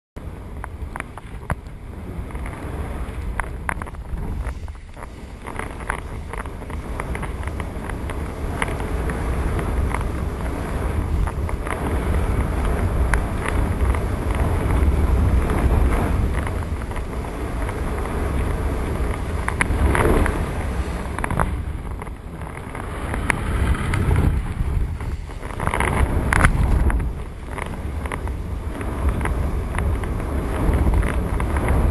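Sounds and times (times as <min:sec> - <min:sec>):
strong wind rumbling on microphone: 0:00.2 - 0:31.9.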